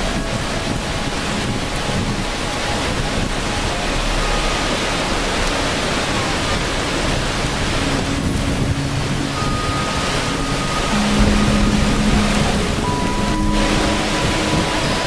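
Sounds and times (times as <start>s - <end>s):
falling water rushing: 0.0s - 15.0s.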